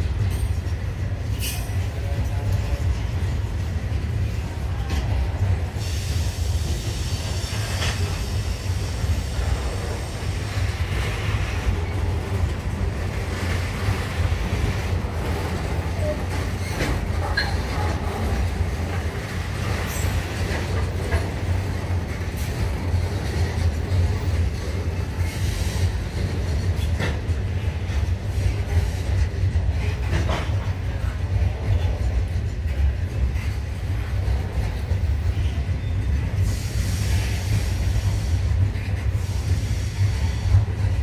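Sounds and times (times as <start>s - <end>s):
freight train wheels rumbling on rail: 0.0s - 41.0s.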